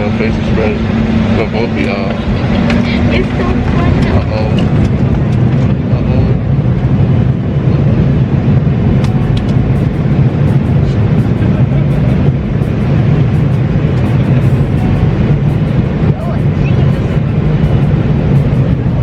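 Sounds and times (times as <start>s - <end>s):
airliner cabin roar: 0.0s - 19.0s
low hum: 0.0s - 19.0s.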